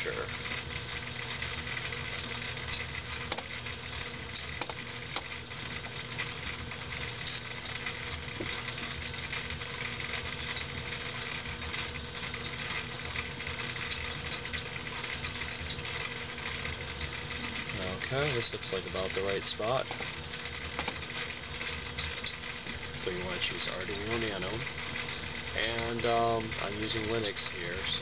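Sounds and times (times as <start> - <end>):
machine hum and hiss: 0.0 - 28.0.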